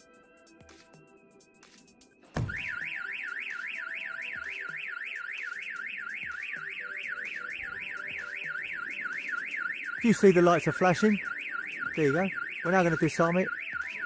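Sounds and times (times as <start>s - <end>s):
car alarm siren warbling: 2.4s - 14.0s.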